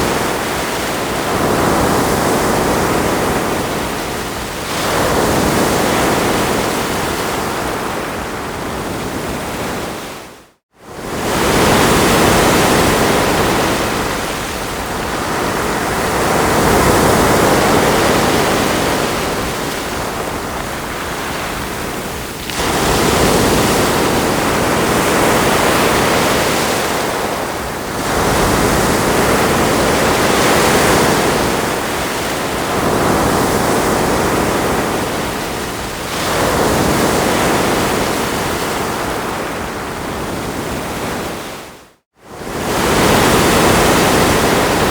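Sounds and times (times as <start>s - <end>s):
ocean surf washing on shore: 0.0s - 44.9s.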